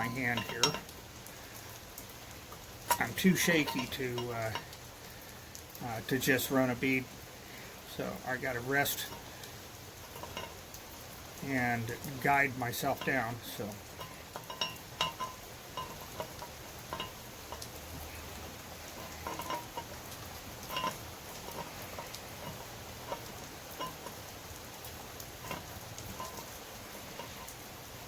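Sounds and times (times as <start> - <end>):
welder crackling sizzle: 0.0 - 28.0.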